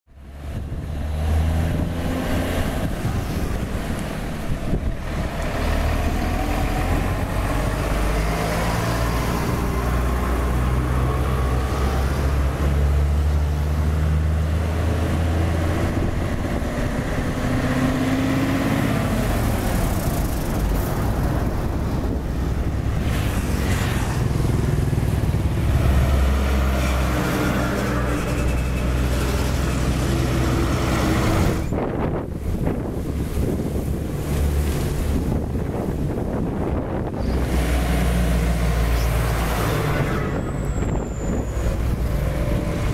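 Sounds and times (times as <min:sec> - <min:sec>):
heavy diesel trucks driving past: 0:00.1 - 0:42.9.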